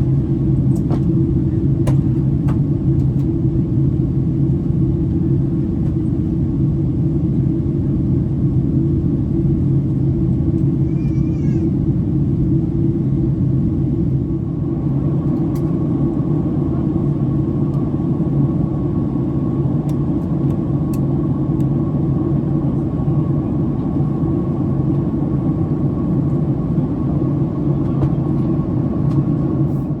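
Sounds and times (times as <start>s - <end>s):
airplane cabin engine drone: 0.0s - 30.0s.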